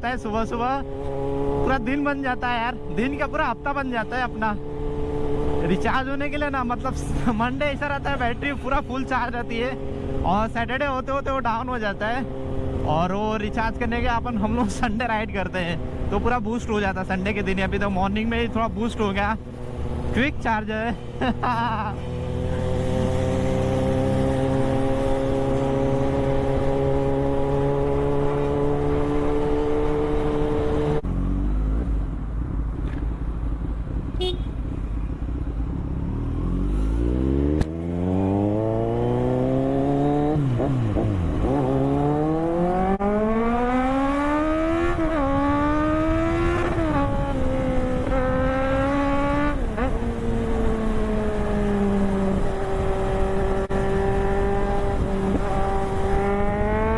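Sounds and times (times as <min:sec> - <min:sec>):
motorcycle engine and exhaust: 0:00.0 - 0:56.9.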